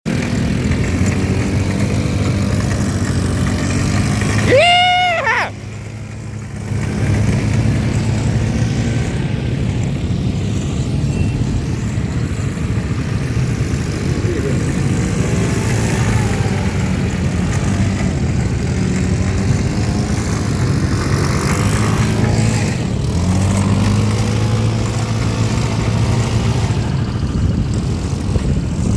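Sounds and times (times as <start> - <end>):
quad bike engines running: 0.1 - 28.9.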